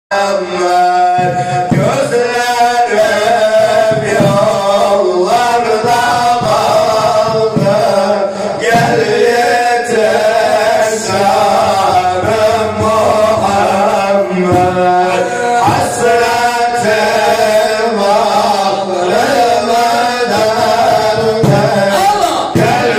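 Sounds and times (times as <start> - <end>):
man singing a hymn: 0.1 - 22.9.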